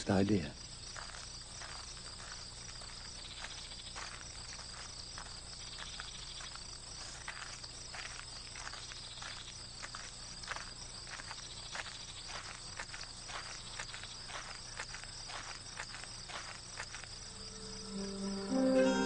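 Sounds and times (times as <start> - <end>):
crickets chirring: 0.0 - 19.0
footsteps on cobblestones: 0.8 - 17.8.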